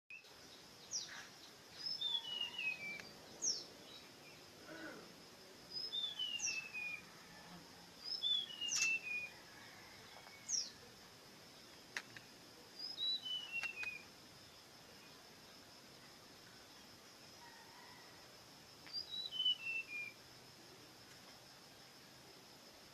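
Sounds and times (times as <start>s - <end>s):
songbird singing: 0.1s - 22.9s.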